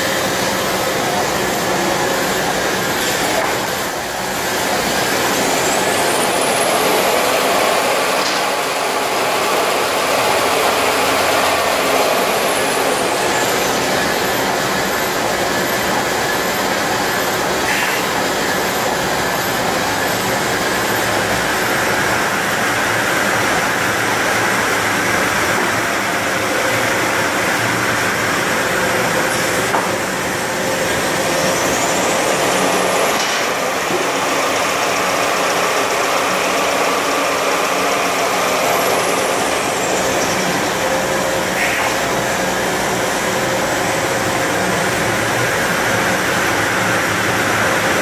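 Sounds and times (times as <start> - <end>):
band saw machine drone: 0.0 - 48.0.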